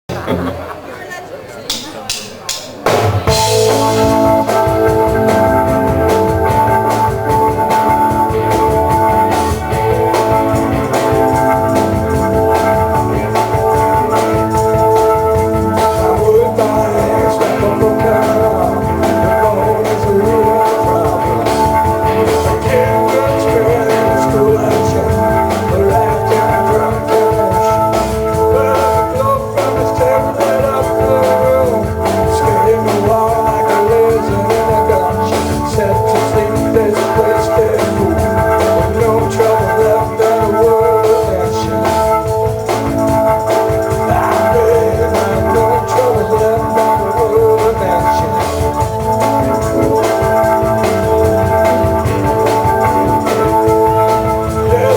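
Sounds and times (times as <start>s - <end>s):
organ chords: 0.0s - 1.0s, 1.7s - 54.9s
steady drum beat: 1.7s - 54.9s.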